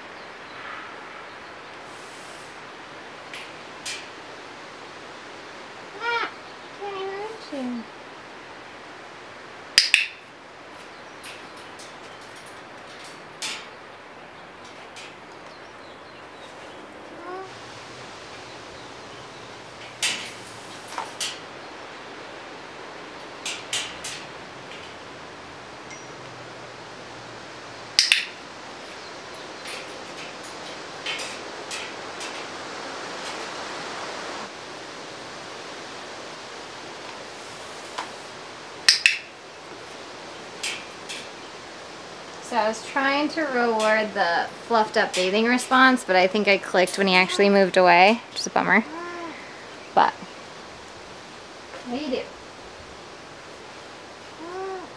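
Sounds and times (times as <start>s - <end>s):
steady hiss: 0.0s - 54.9s.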